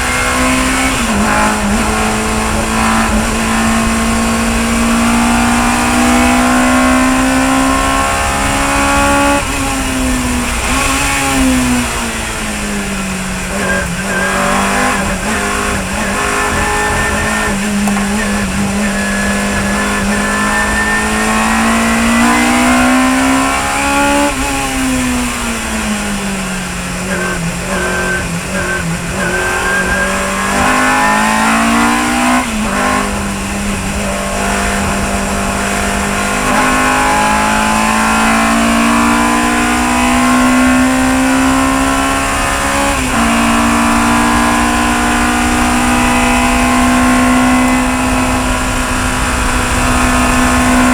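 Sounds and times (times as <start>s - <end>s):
engine throttle blips: 0.0s - 50.9s
racing car engine at speed: 0.0s - 50.9s.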